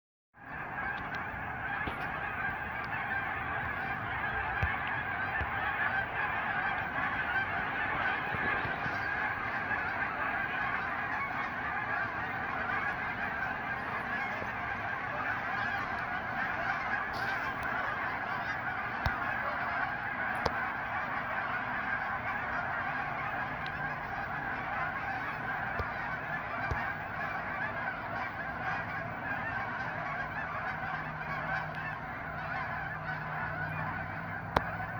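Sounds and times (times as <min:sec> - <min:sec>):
flock of geese honking: 0:00.4 - 0:34.9.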